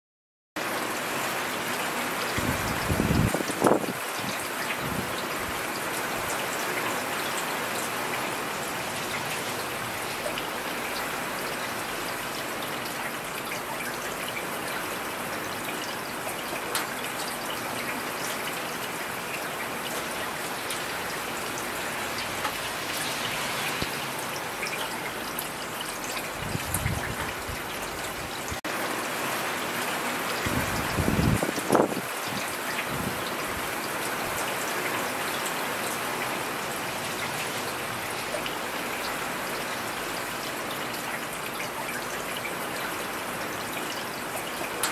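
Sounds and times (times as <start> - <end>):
steady rain falling: 0.6 - 44.9.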